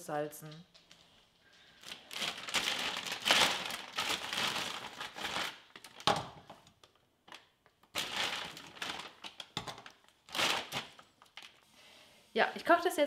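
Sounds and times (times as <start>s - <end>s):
plastic bag crinkling: 0.7s - 11.7s.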